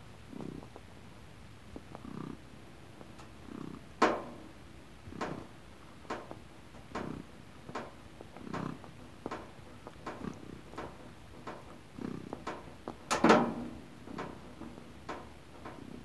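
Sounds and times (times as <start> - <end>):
cat purring: 0.2 - 1.1, 1.7 - 16.0.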